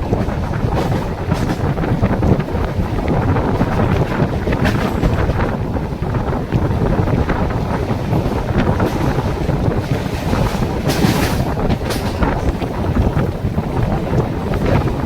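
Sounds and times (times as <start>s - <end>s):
train rumbling: 0.0s - 15.0s
wheels clicking and rattling: 0.0s - 15.0s
wind buffeting microphone: 0.0s - 15.0s.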